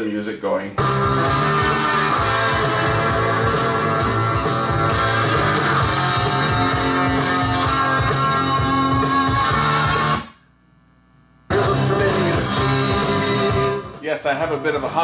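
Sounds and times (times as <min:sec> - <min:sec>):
rock music with guitar: 0:00.8 - 0:10.4, 0:11.5 - 0:15.0.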